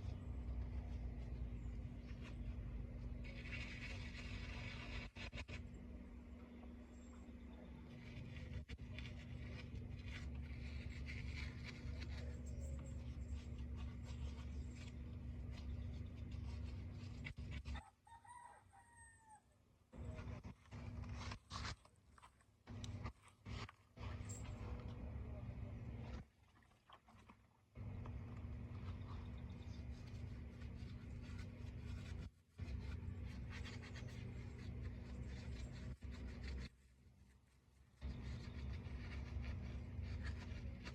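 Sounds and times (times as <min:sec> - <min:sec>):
low hum: 0:00.0 - 0:17.8, 0:19.2 - 0:40.9
scratchy rubbing and scraping: 0:00.0 - 0:19.0, 0:20.0 - 0:26.2, 0:27.8 - 0:40.9.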